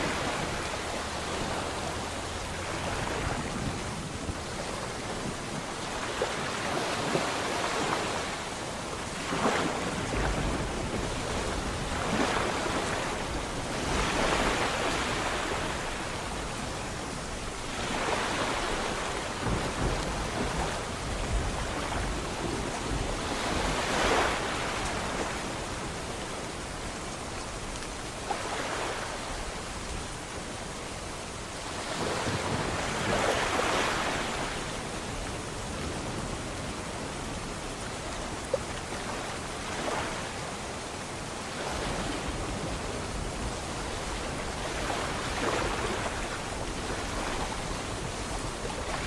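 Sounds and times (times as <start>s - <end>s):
sea waves breaking: 0.0s - 49.0s.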